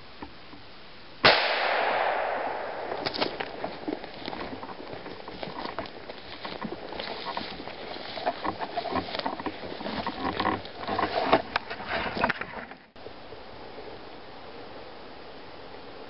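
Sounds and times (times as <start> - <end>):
rustling undergrowth and dry leaves: 0.0 - 16.0.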